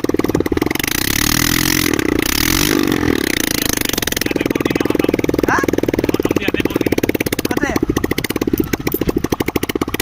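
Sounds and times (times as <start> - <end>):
motorcycle engine revving and idling: 0.0 - 10.0.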